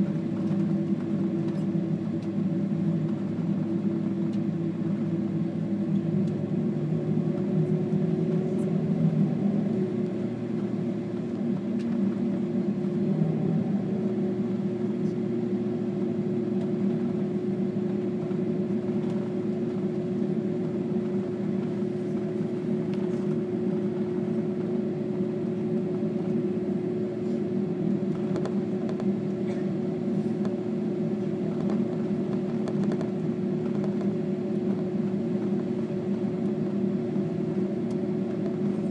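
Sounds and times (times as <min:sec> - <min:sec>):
jet engines idling drone: 0:00.0 - 0:38.9.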